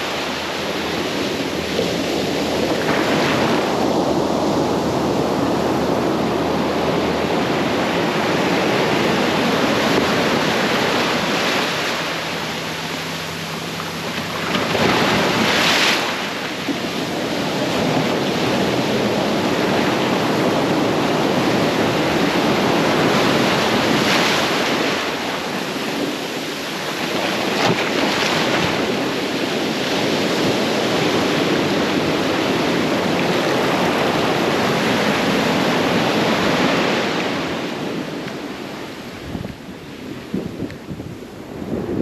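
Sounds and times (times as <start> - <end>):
ocean surf breaking: 0.0 - 42.0
wind buffeting microphone: 0.0 - 42.0.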